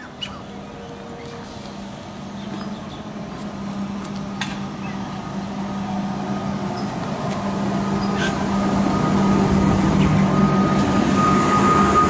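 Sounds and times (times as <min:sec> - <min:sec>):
electric train arriving: 0:00.0 - 0:12.0.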